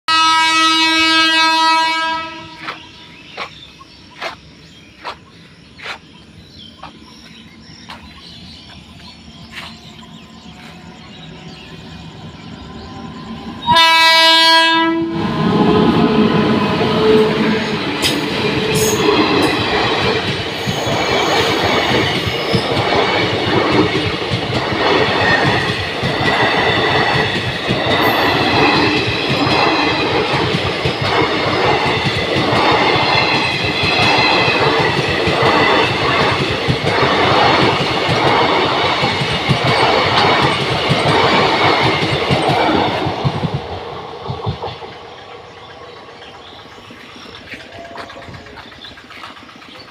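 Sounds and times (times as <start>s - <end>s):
train rushing past: 0.1s - 49.9s
wheels clickety-clack on rail joints: 2.6s - 13.5s, 15.3s - 49.9s.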